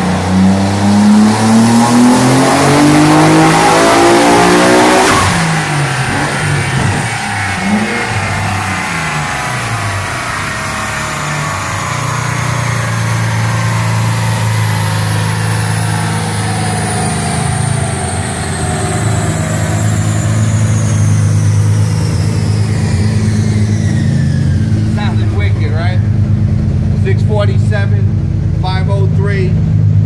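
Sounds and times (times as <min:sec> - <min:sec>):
car engine running on dyno: 0:00.0 - 0:30.0
high turbo whine: 0:00.0 - 0:30.0.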